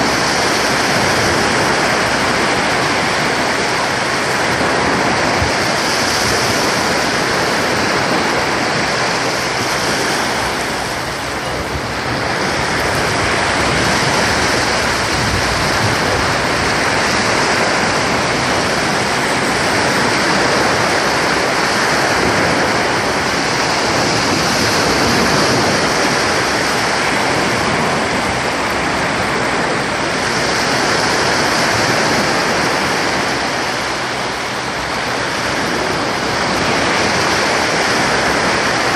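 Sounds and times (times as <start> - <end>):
sea surf breaking on beach: 0.0 - 38.9.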